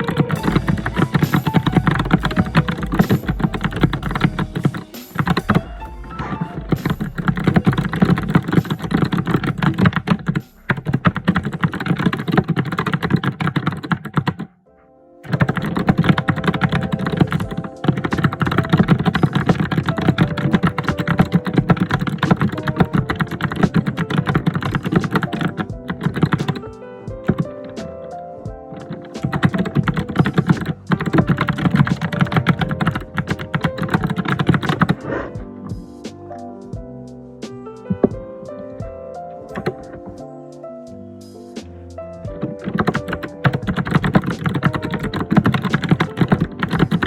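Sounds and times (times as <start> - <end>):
fast typing on keyboard: 0.0 - 14.5, 15.2 - 27.8, 28.7 - 35.0, 39.5 - 40.2, 42.3 - 47.0.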